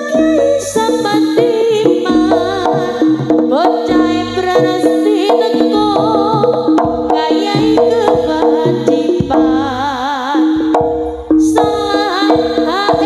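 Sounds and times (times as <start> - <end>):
hand drum strokes: 0.0 - 13.0
struck metal percussion: 0.0 - 13.0
wavering held melody: 0.0 - 13.0.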